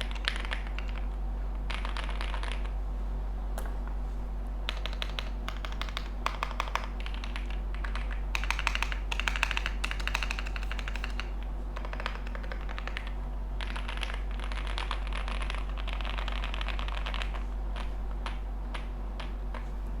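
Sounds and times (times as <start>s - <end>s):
mechanical keyboard typing: 0.0s - 2.7s, 4.7s - 19.7s.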